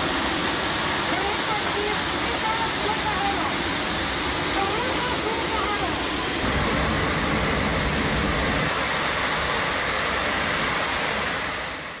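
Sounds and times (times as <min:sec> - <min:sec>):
rush of air in aircraft cabin: 0:00.0 - 0:12.0.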